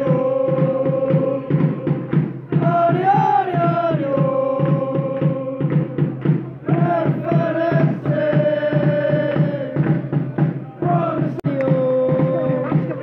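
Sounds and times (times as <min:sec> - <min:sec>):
crowd chanting in unison: 0:00.0 - 0:13.0
drum beating steadily: 0:00.0 - 0:13.0.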